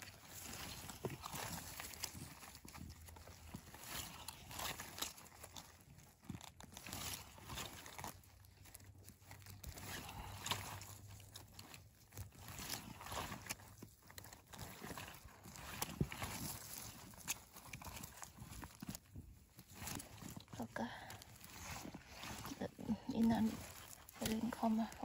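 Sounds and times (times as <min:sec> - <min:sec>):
footsteps crunching through undergrowth: 0:00.0 - 0:25.0
twigs snapping: 0:00.0 - 0:25.0.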